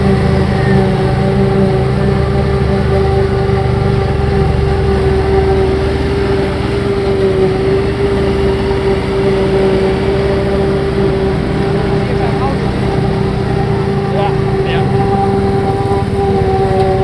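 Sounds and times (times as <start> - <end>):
constant machine whine: 0.0 - 17.0
forage harvester engine drone: 0.0 - 17.0
tractor running: 0.0 - 17.0.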